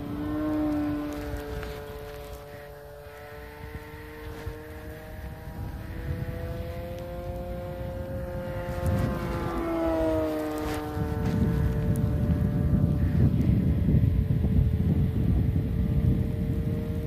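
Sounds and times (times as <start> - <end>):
propeller aircraft engine droning: 0.0 - 17.0
wind rumble on microphone: 0.0 - 17.0.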